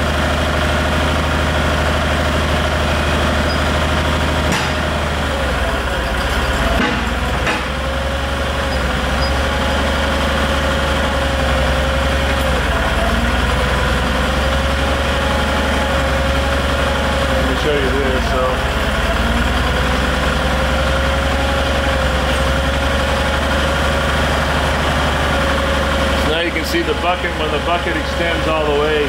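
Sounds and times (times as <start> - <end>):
engine running steadily: 0.0 - 29.0
hydraulic whine: 0.0 - 29.0.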